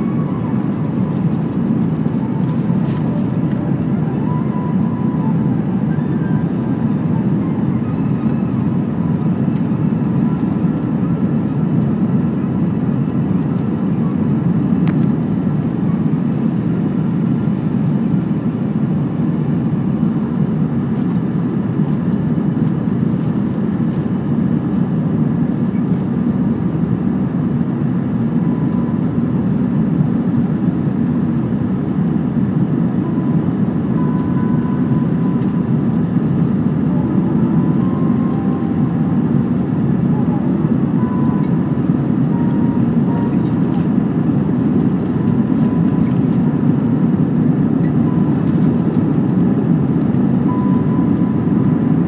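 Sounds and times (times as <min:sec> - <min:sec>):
airplane cabin roar: 0:00.0 - 0:52.0.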